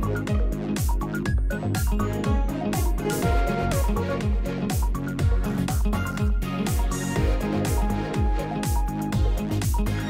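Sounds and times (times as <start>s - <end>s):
music with deep kick drums: 0.0s - 10.0s.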